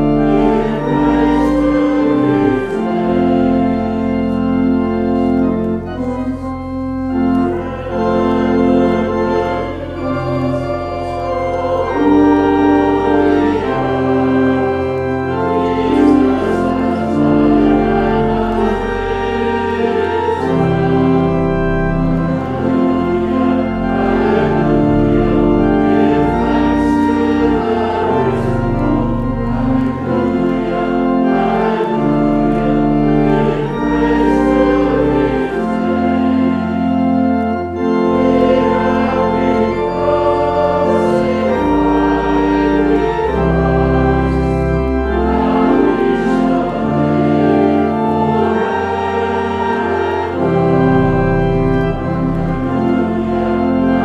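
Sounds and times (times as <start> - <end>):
congregation singing a hymn: 0.0 - 54.0
organ chords: 0.0 - 54.0.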